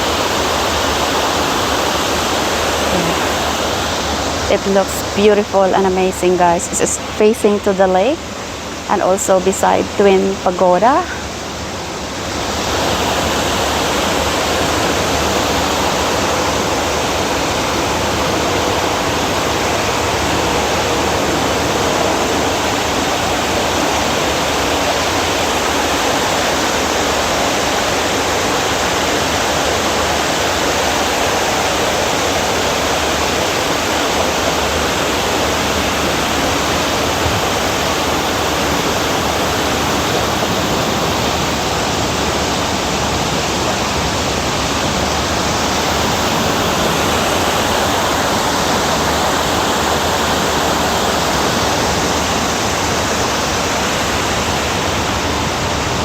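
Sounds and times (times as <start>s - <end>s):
water cascading down a wall: 0.0s - 4.5s, 11.2s - 56.0s.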